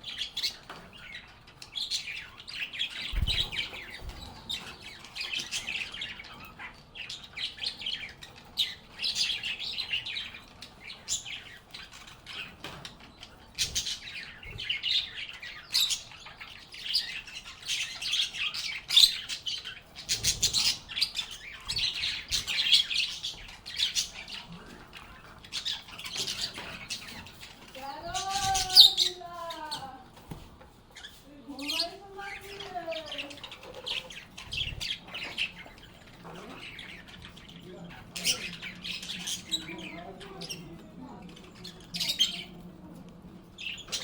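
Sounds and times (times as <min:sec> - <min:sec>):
lovebirds chirping: 0:00.0 - 0:44.0.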